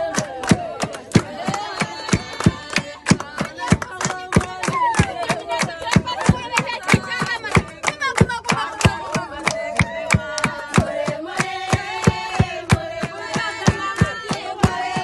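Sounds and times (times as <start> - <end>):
hand clapping: 0.0 - 15.0
voices singing together: 0.0 - 15.0.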